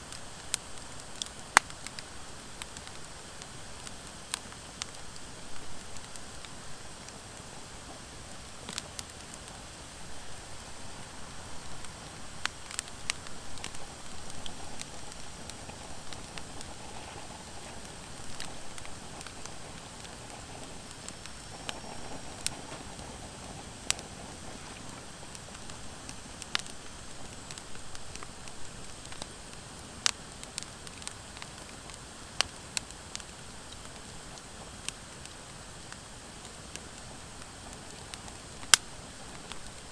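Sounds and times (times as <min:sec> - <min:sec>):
wood fire hissing and popping: 0:00.0 - 0:39.9.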